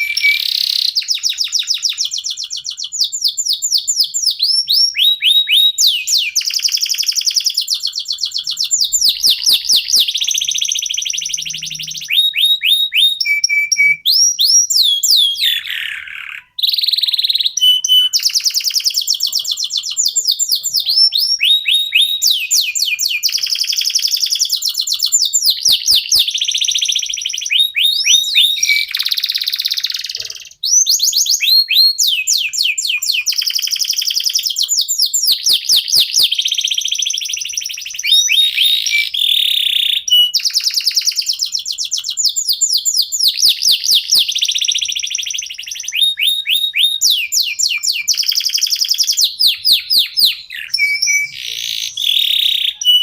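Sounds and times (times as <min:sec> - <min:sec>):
canaries singing trills: 0:00.0 - 0:53.0.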